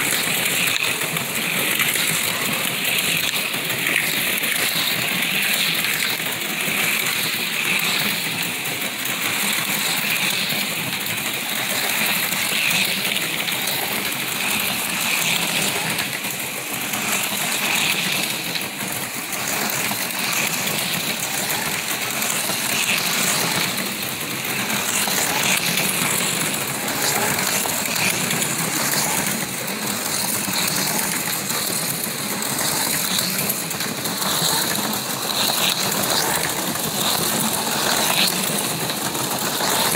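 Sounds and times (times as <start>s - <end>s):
cars rattling along track: 0.0s - 39.9s
slot car motors whirring: 0.0s - 39.9s.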